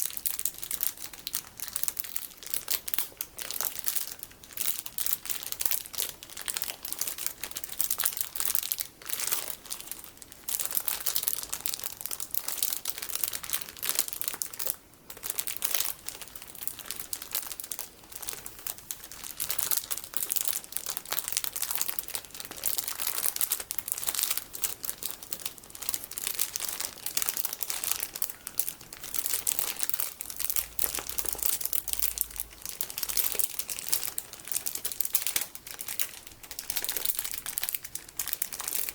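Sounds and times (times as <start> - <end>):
plastic packaging crinkling: 0.0 - 38.9.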